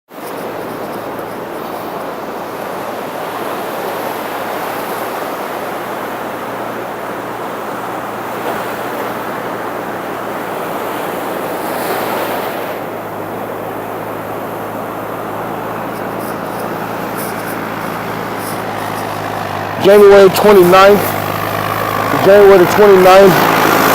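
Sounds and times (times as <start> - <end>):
surf washing onto beach: 0.1 - 23.9
wave breaking: 0.1 - 23.9.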